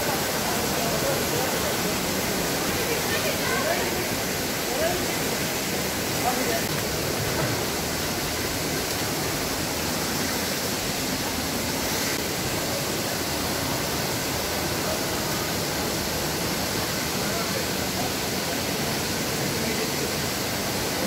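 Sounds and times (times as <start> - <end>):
river water roaring: 0.0 - 21.0.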